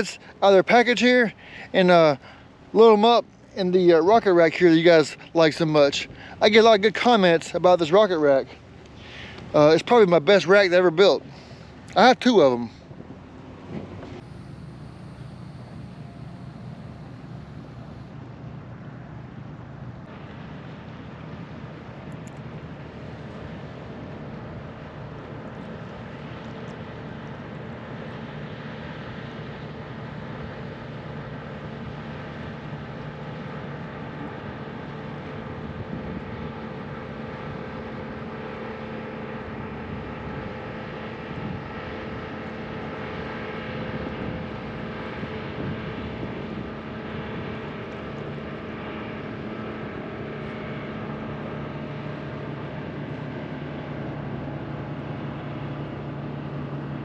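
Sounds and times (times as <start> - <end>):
engine drone: 0.0 - 57.0.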